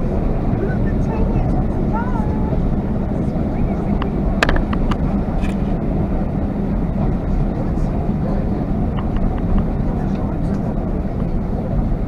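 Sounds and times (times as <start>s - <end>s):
constant hum: 0.0s - 12.0s
vehicle rumble from inside: 0.0s - 12.0s.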